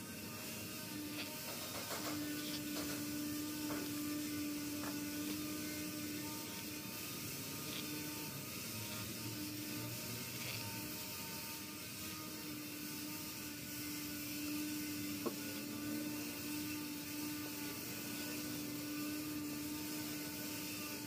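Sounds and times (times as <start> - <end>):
small motor humming: 0.0 - 21.0.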